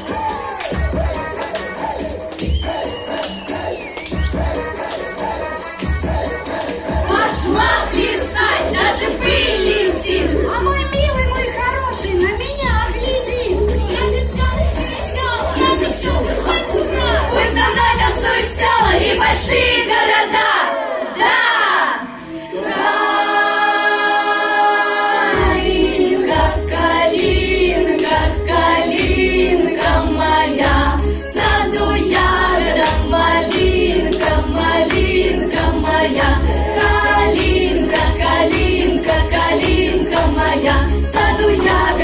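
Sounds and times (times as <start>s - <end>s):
backing track with bass and beat: 0.0s - 19.2s, 25.4s - 42.0s
female vocal ensemble singing: 0.7s - 11.6s, 13.6s - 42.0s.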